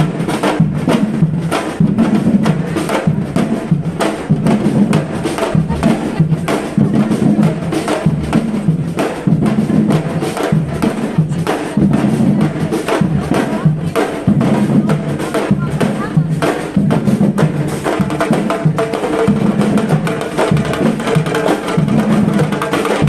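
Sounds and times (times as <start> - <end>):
drums and hand percussion: 0.0 - 23.0.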